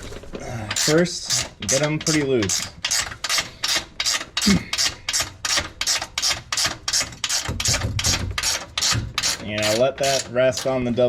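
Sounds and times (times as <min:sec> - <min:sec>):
hand ratchet clicking: 0:00.7 - 0:10.8.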